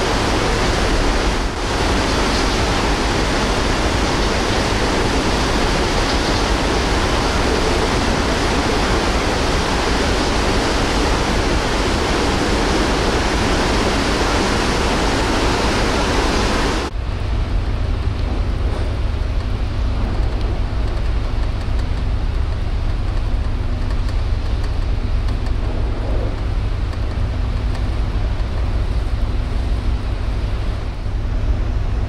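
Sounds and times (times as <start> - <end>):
dull rumble: 0.0 - 32.0
wind and sea rushing: 0.0 - 32.0.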